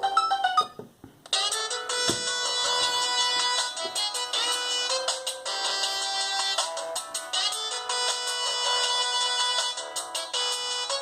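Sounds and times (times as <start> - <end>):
phone ringtone melody: 0.0 - 11.0.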